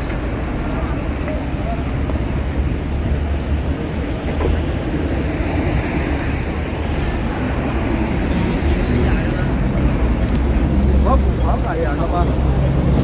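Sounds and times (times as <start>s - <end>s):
low city rumble: 0.0s - 13.0s.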